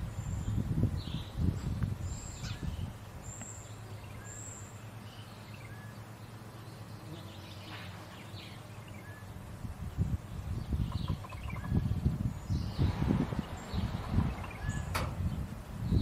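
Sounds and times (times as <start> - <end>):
soft bird chirps: 0.1 - 16.0.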